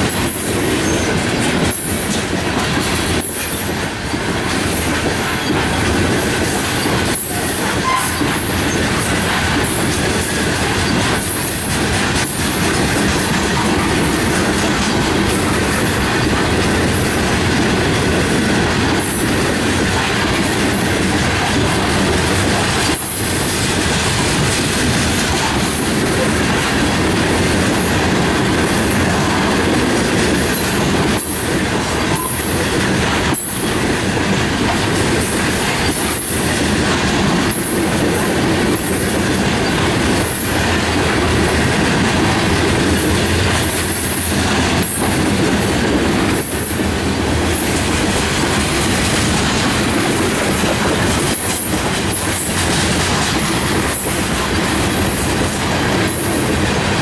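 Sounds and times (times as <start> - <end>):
train wheels rumbling on rail: 0.0 - 57.0
wheels clacking on rail joints: 0.0 - 57.0.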